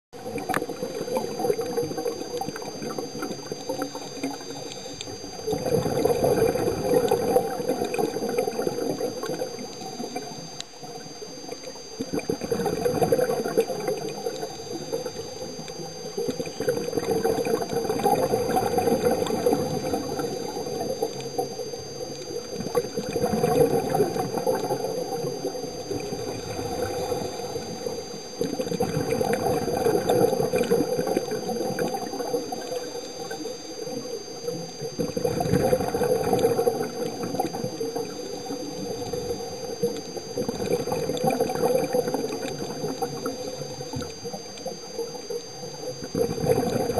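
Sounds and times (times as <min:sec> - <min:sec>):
regulator bubbles from exhaled breaths: 0:00.2 - 0:46.9
steady hiss: 0:00.2 - 0:46.9.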